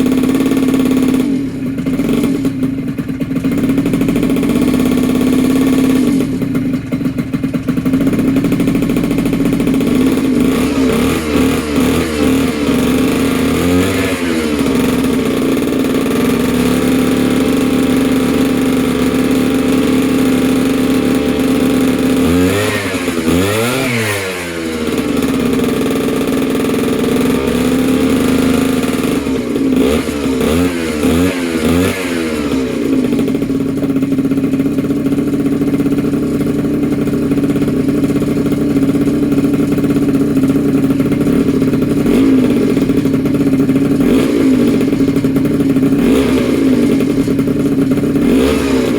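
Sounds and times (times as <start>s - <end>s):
two-stroke engine idling and revving: 0.0s - 48.9s.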